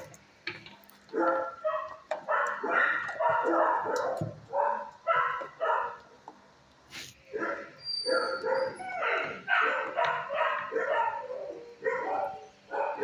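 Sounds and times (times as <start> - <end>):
dogs barking: 1.1 - 6.2, 7.3 - 13.0.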